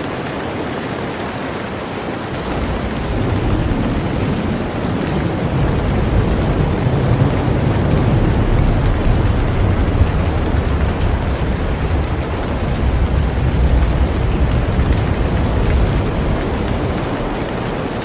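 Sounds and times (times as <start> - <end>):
heavy rain on a boat: 0.0 - 18.0
deep low rumble: 2.4 - 17.8.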